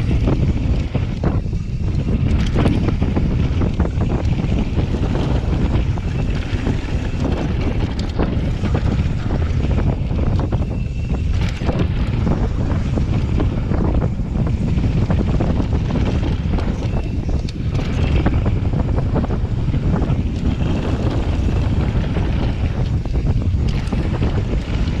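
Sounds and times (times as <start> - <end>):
bike clicks and rattles: 0.0 - 25.0
bike tyres running over dirt: 0.0 - 25.0
wind buffeting microphone: 0.0 - 25.0.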